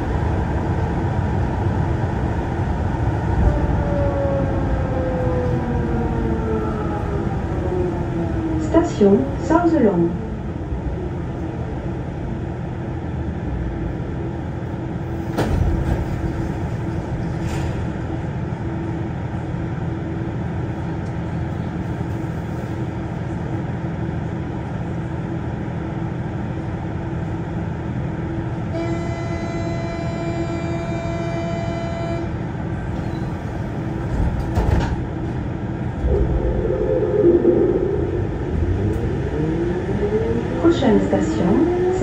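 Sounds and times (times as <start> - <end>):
metro car equipment humming: 0.0 - 42.0.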